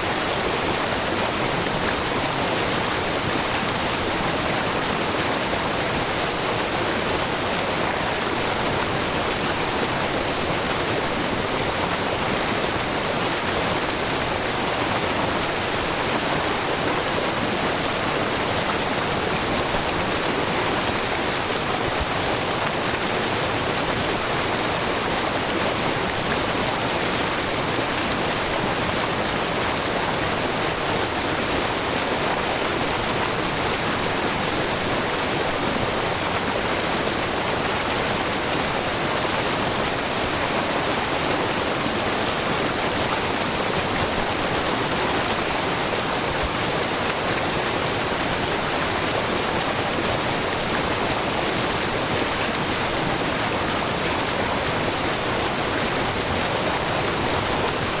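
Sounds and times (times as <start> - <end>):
waterfall pouring over rock: 0.0 - 58.0.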